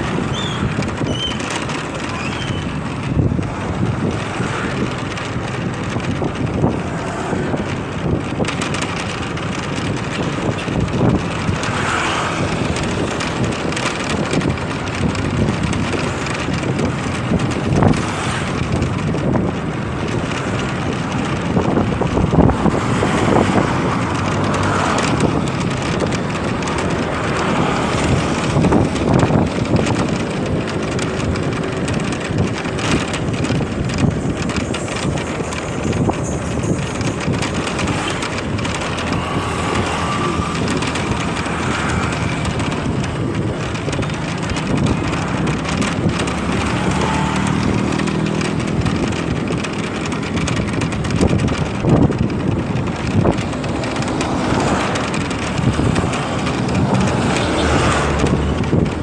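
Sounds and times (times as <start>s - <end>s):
motorcycle engine: 0.0s - 59.0s
road noise: 0.0s - 59.0s
wind rushing over microphone: 0.0s - 59.0s.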